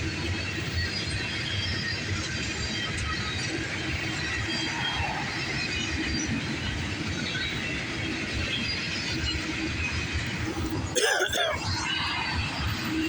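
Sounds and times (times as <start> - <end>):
train wheels rumbling on rails: 0.0 - 10.9, 11.5 - 13.0.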